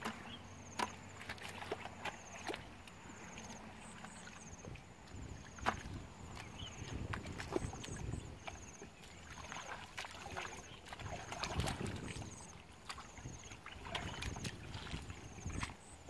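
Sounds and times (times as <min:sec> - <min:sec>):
splashing in muddy water: 0:00.0 - 0:16.0.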